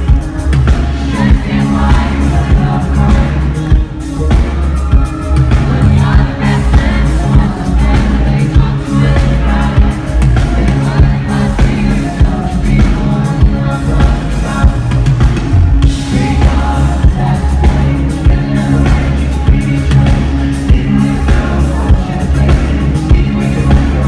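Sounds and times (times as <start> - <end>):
drum-kit beat: 0.0 - 24.0
live pop-rock band: 0.0 - 24.0.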